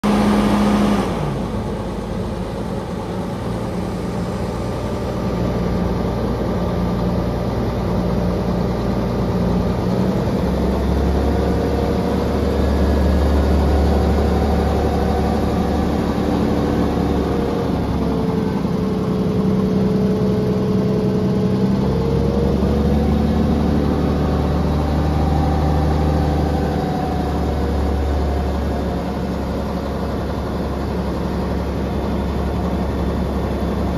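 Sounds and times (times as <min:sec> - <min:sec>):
dump truck diesel engine: 0:00.0 - 0:33.9.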